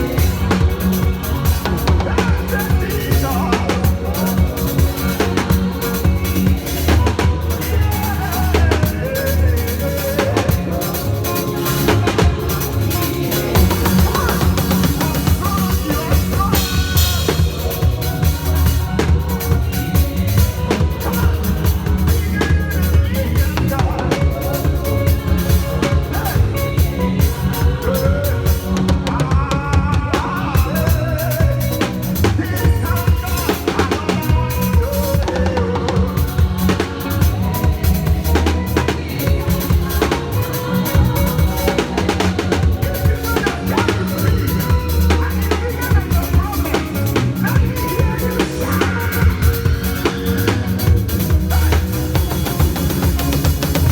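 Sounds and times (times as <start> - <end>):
drum kit playing: 0.0 - 53.9
full band music: 0.0 - 53.9.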